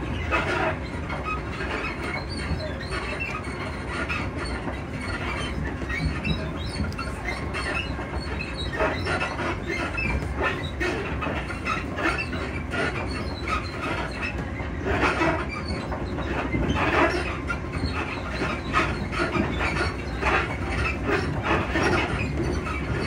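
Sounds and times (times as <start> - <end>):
train wheels rumbling on track: 0.0 - 23.0
creaks clicks and knocks: 0.1 - 23.0.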